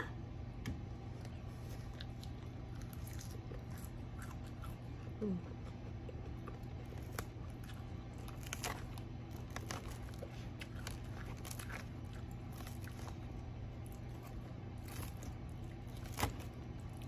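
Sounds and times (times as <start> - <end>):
steady low hum: 0.0 - 17.0
salad being chewed: 1.2 - 17.0.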